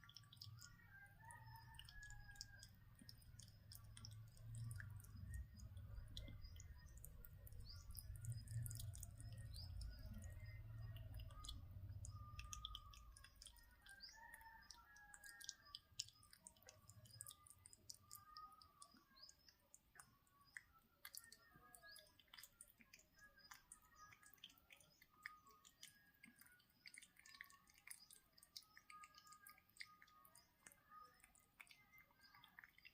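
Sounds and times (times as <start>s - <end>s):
faint bird chirps: 0.0s - 32.9s.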